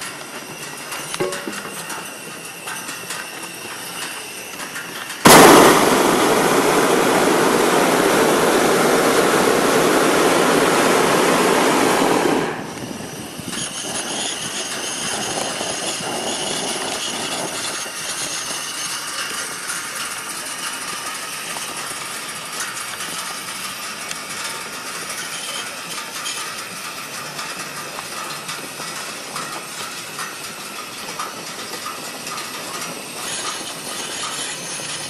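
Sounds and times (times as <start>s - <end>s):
propane burner blast: 0.0s - 35.0s.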